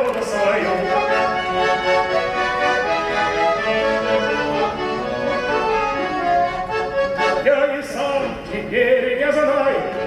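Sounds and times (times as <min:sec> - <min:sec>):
accordion playing: 0:00.0 - 0:10.0.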